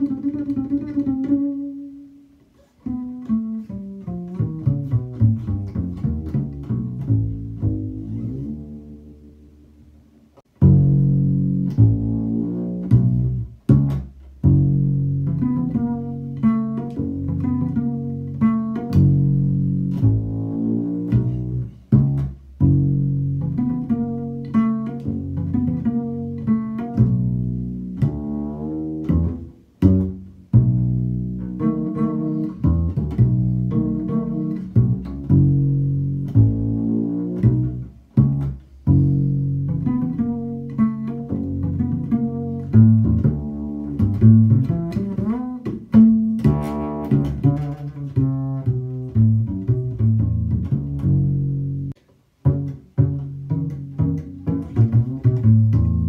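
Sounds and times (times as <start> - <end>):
double bass plucked: 0.0 - 56.0.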